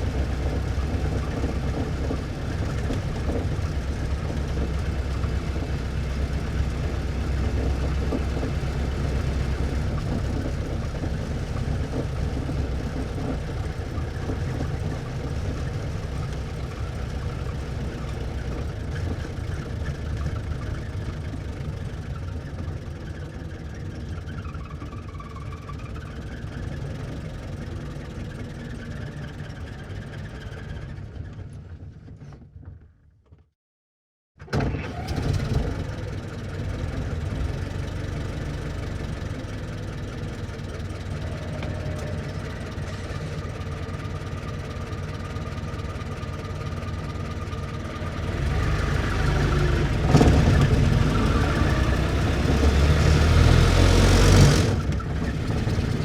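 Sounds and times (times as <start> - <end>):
old car engine running: 0.0 - 32.4, 34.7 - 56.0.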